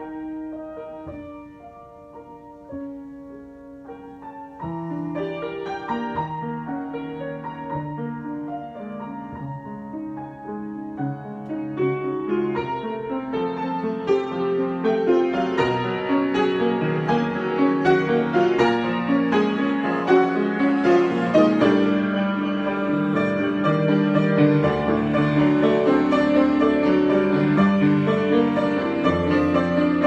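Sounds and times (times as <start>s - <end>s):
solo piano improvisation: 0.0s - 30.0s.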